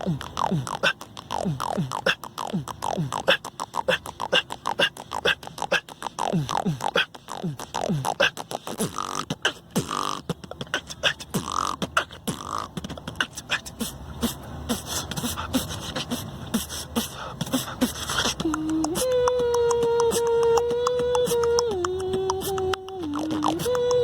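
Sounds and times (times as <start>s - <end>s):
beatboxing: 0.0s - 24.0s
held vocal note: 0.0s - 24.0s.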